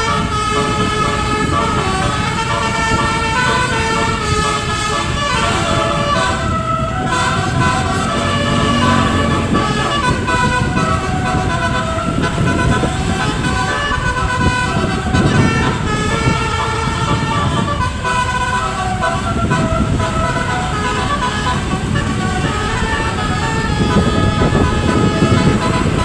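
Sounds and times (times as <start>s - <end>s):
low engine rumble: 0.0s - 26.0s
multi-tone vehicle horn melody: 0.0s - 26.0s.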